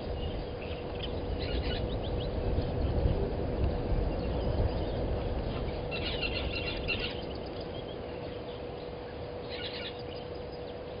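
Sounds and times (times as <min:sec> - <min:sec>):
small birds chirping: 0:00.0 - 0:03.3, 0:04.0 - 0:11.0
faint steady hum: 0:00.0 - 0:11.0
low wind rumble: 0:00.0 - 0:11.0.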